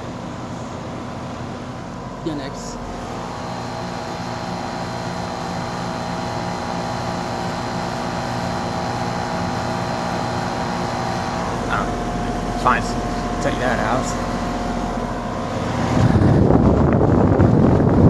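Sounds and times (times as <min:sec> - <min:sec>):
heat pump humming with whine: 0:00.0 - 0:18.0.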